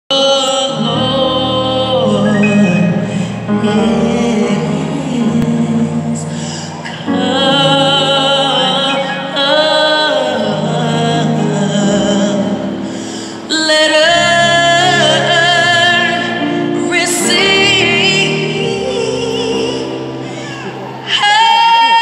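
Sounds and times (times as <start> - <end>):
choir singing with vibrato: 0.1 - 22.0.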